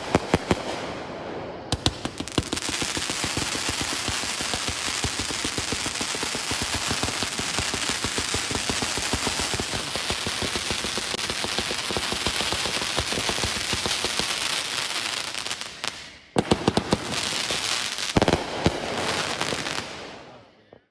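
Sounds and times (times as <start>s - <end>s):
firecrackers crackling: 0.0s - 20.8s.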